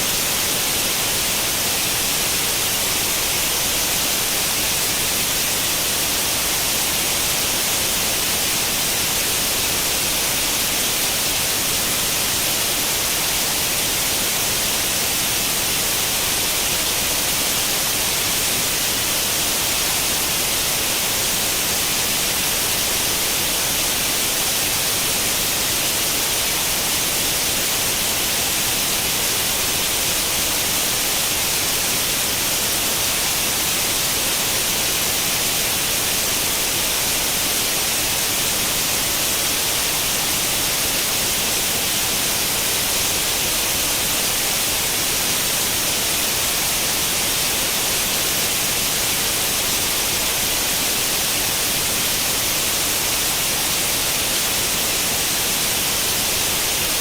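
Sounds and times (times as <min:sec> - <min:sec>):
television static hiss: 0:00.0 - 0:57.0.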